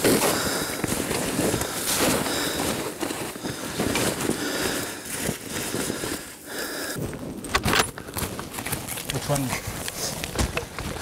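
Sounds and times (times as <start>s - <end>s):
clothing rustling: 0.0s - 11.0s.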